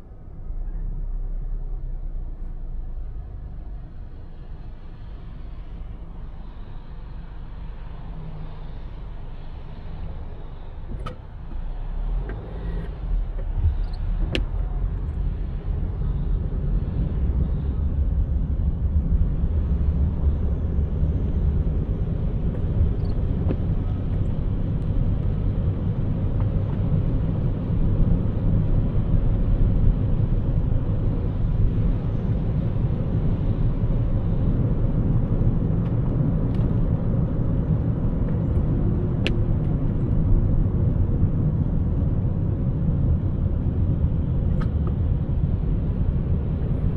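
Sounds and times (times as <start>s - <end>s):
car tyres and engine rumble: 0.0s - 46.9s.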